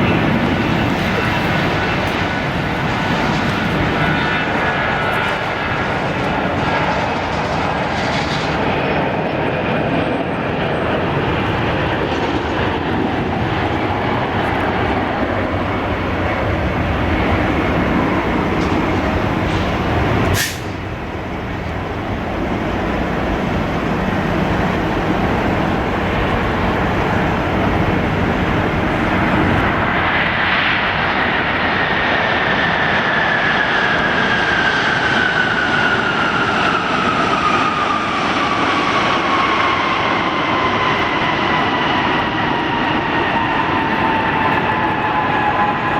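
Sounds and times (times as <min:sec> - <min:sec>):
high jet engine whine: 0:00.0 - 0:45.9
jet engine roar: 0:00.0 - 0:45.9.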